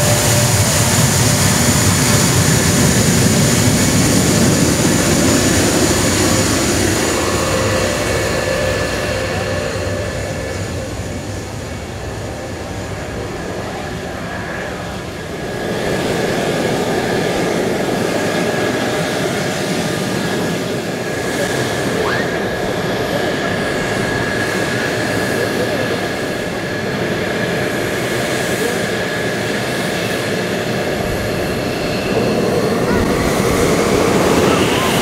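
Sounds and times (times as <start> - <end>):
high-pitched engine whine: 0.0 - 35.0
jet engine roar: 0.0 - 35.0.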